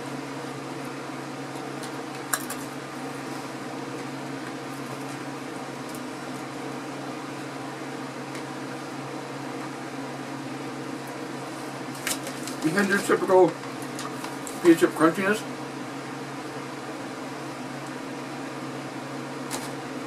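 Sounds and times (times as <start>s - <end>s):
electric fan humming: 0.0s - 20.0s.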